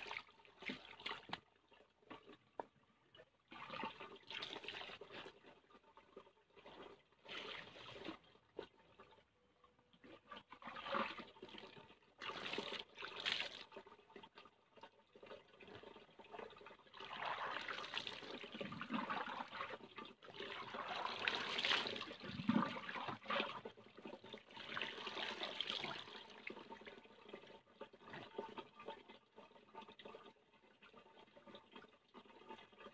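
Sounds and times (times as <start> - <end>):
water pouring and splashing: 0.0 - 9.2, 10.0 - 30.1.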